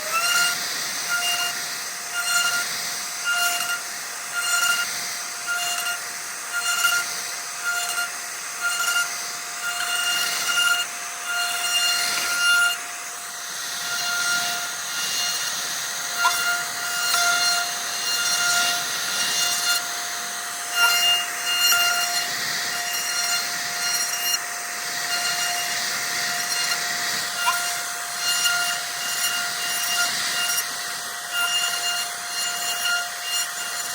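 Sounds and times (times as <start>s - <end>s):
router bit cutting wood: 0.0s - 33.9s
router spindle whining: 0.0s - 33.9s.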